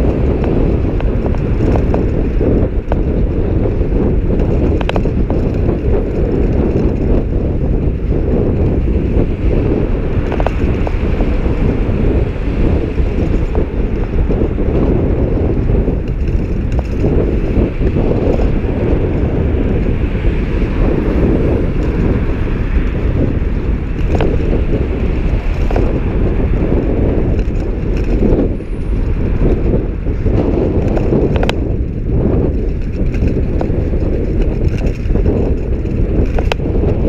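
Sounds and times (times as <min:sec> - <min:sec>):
road traffic: 0:00.0 - 0:37.0
wind rumble on microphone: 0:00.0 - 0:37.0.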